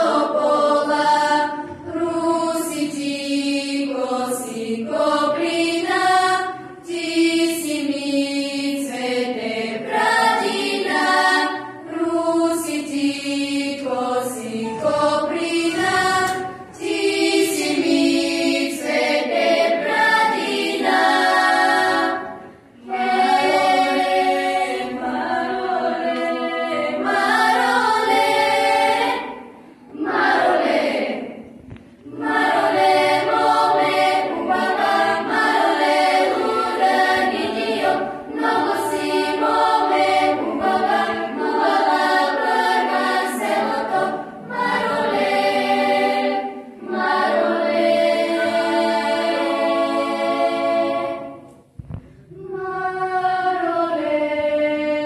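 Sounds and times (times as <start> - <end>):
girls' choir singing unaccompanied: 0.0 - 55.0.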